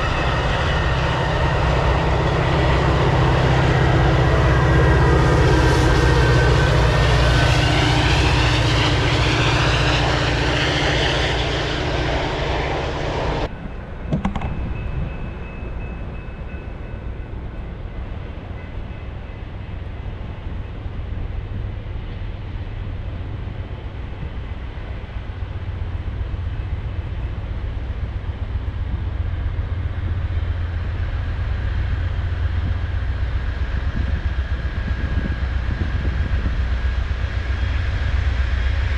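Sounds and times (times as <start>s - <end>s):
passenger train passing: 0.0s - 38.9s.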